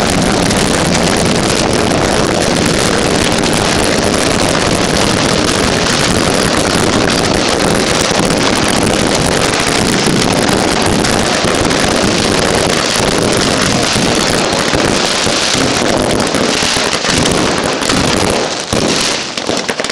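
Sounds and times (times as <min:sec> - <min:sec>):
firework rockets rushing: 0:00.0 - 0:19.9.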